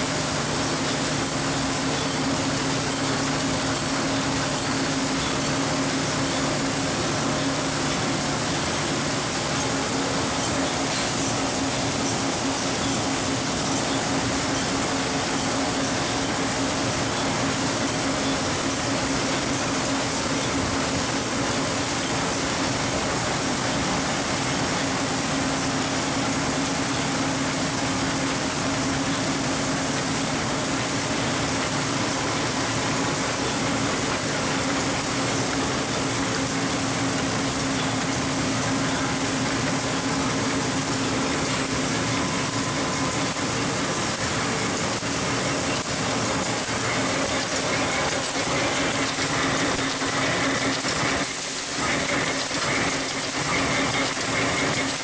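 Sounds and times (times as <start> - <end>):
high steady whine: 0.0 - 55.0
machine running with low hum: 0.0 - 55.0.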